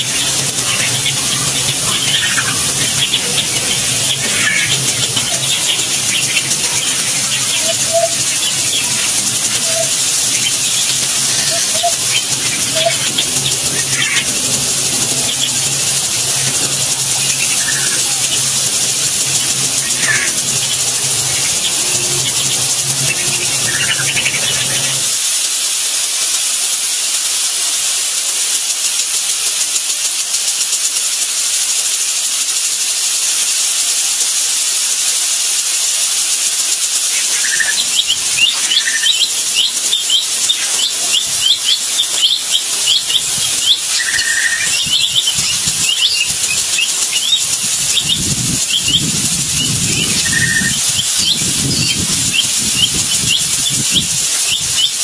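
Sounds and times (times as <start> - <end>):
birds chirping: 0.0 - 27.4, 35.6 - 55.0
high-pitched hiss: 0.0 - 55.0.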